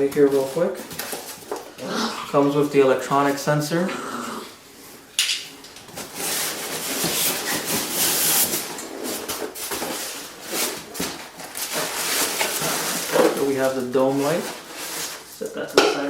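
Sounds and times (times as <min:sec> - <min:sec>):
cardboard rustling and scraping: 0:00.0 - 0:03.9, 0:04.6 - 0:15.7.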